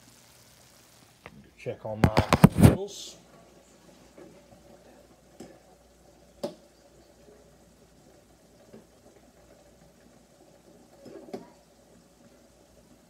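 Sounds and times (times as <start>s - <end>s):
pot of noodles boiling: 0.0s - 13.0s.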